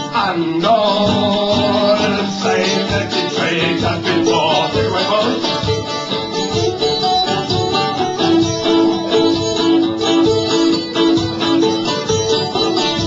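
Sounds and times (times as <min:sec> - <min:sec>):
live folk-punk band playing: 0:00.0 - 0:13.0.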